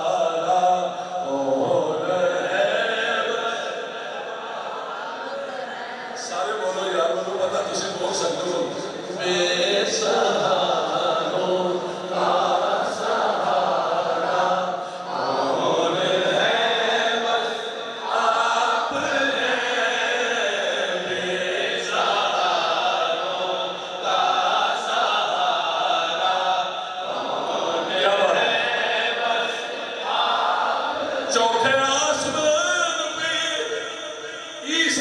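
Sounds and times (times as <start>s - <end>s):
men chanting: 0.0s - 35.0s.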